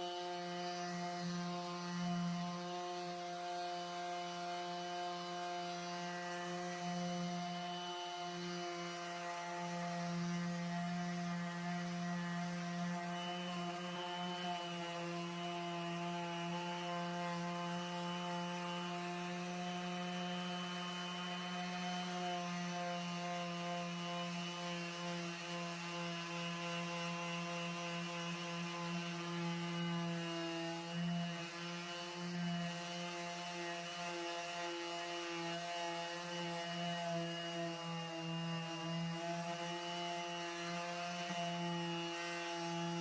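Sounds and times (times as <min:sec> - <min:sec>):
power tool motor hum: 0:00.0 - 0:43.0.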